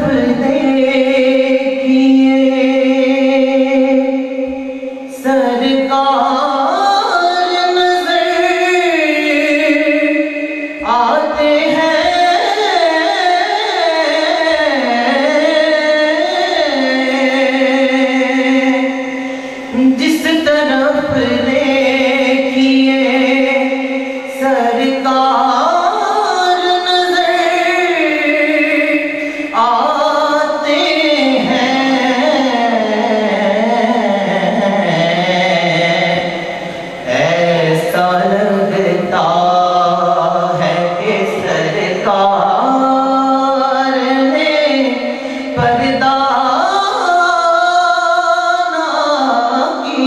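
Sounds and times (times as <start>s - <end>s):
man singing into a microphone: 0.0s - 50.0s.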